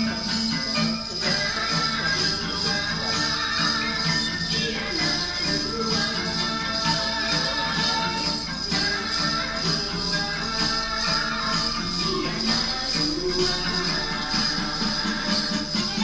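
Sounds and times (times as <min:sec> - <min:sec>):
dance music with steady beat: 0:00.0 - 0:16.0
jingling percussion: 0:00.0 - 0:16.0.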